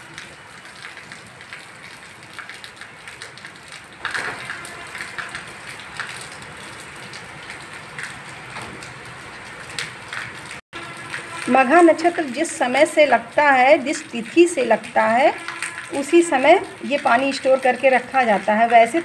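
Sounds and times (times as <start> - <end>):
rain on a wet roof: 0.0 - 19.0.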